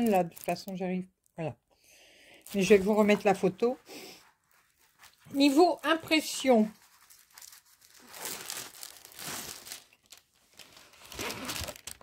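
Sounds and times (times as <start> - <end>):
plastic film crinkling: 0.0 - 1.5, 2.3 - 12.0.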